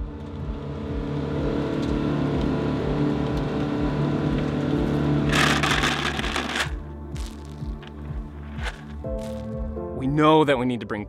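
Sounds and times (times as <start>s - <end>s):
off-road vehicle engine driving: 0.0s - 9.4s.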